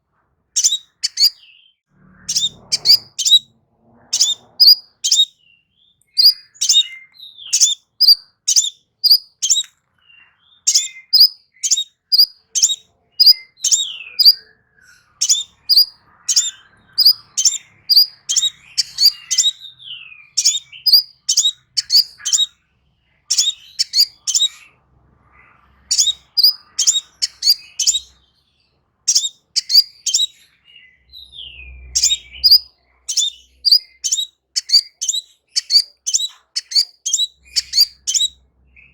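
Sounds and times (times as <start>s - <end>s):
songbird chirping: 0.5s - 38.9s.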